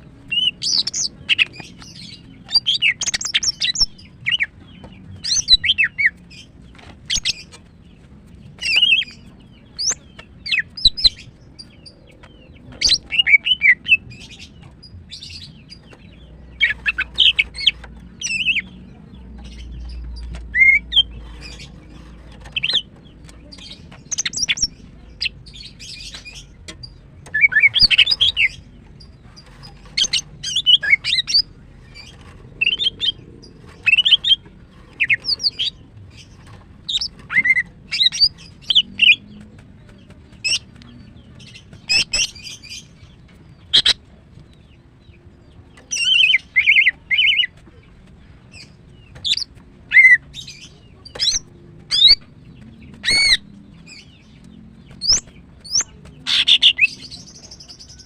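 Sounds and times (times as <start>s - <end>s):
bird chirping in bursts: 0.2s - 58.0s.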